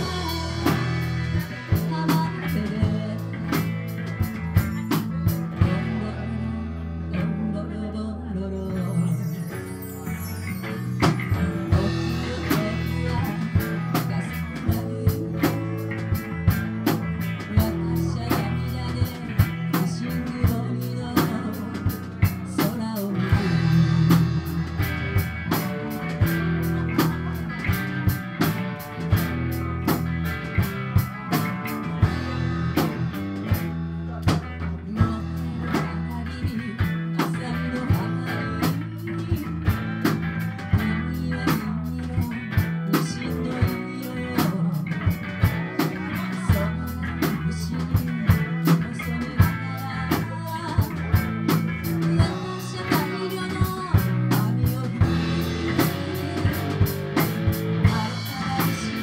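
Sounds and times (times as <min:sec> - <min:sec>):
drum beat: 0:00.0 - 0:05.8, 0:11.0 - 0:59.0
electric bass: 0:00.0 - 0:59.0
electric guitar: 0:00.0 - 0:59.0.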